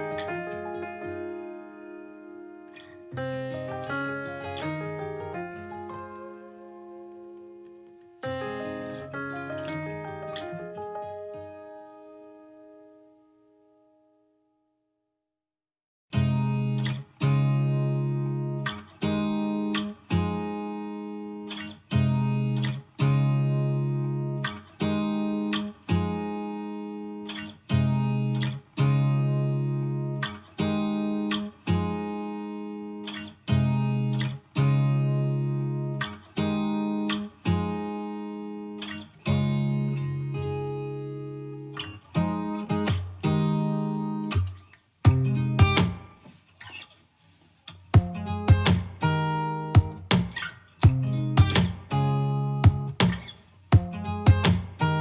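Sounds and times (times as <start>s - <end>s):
acoustic guitar plucked chords: 0.0s - 13.9s, 16.1s - 46.4s, 47.7s - 55.0s.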